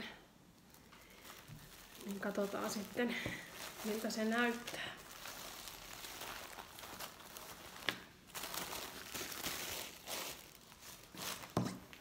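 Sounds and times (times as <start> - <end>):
plastic wrapping crinkling: 0.4 - 12.0
fabric rustling: 0.6 - 12.0.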